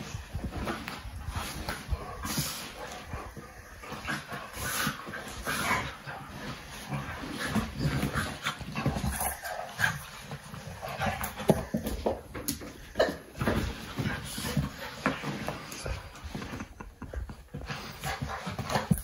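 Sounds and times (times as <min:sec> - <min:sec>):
paws scuffling on dog bed: 0:00.0 - 0:19.0.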